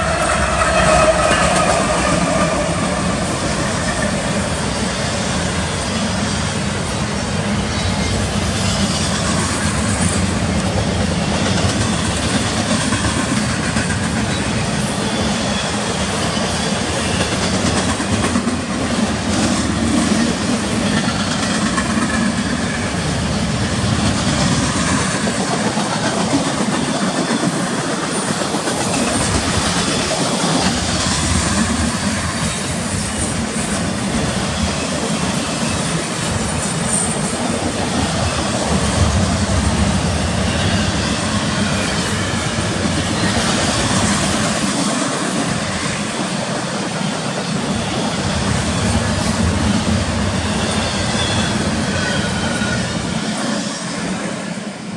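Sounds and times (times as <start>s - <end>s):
diesel locomotive engine drone: 0.0s - 54.9s
train wheels rolling on rails: 0.0s - 54.9s.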